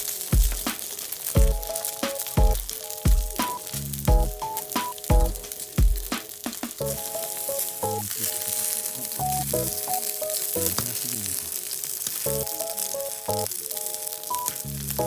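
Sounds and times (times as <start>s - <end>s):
background music: 0.0s - 15.0s
vegetables sizzling as they fry: 0.0s - 15.0s.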